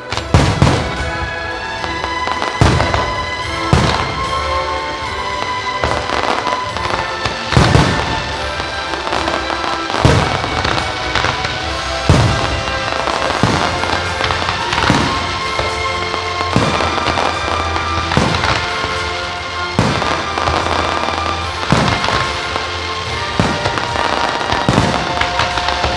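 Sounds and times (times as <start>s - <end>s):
fireworks bursting with loud bangs: 0.0s - 25.9s
fireworks crackling: 0.0s - 25.9s
music: 0.0s - 25.9s.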